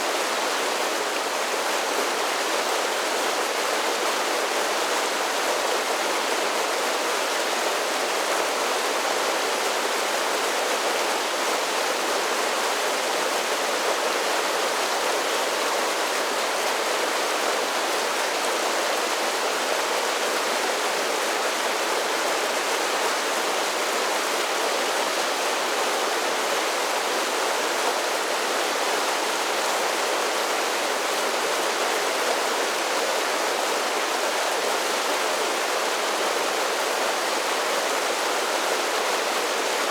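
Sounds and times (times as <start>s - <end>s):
creek rushing over waterfalls: 0.0s - 39.9s.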